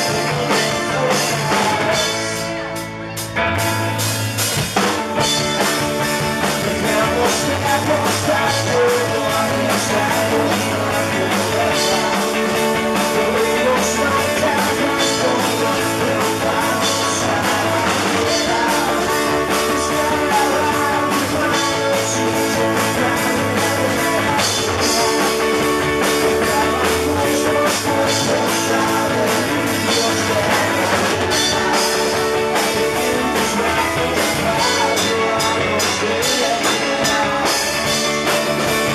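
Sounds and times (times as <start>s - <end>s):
drum kit beat: 0.0s - 38.9s
electric guitar: 0.0s - 38.9s.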